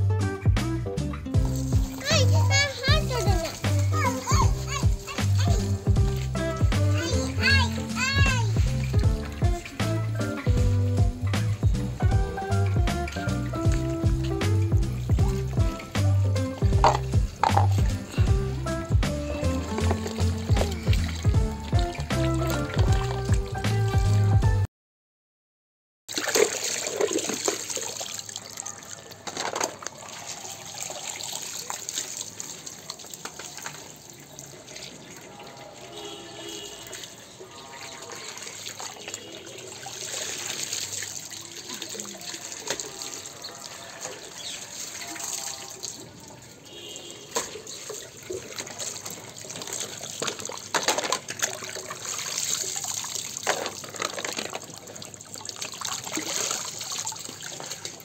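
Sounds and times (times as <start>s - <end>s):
tap water running and splashing: 1.3s - 24.3s, 26.1s - 58.0s.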